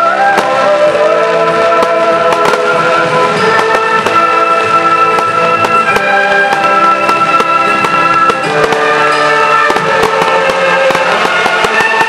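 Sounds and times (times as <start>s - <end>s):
fireworks bursting: 0.0s - 12.0s
orchestral film music: 0.0s - 12.0s.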